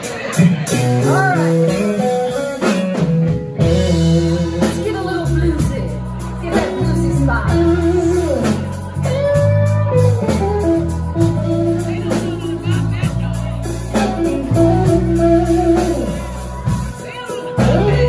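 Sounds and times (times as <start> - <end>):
electric guitar lines: 0.0 - 18.0
live blues band playing: 0.0 - 18.0.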